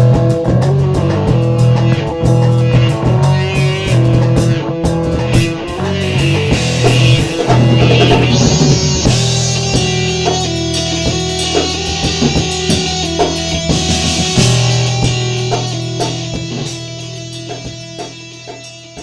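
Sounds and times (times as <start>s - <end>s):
rock song with distorted guitars: 0.0s - 19.0s.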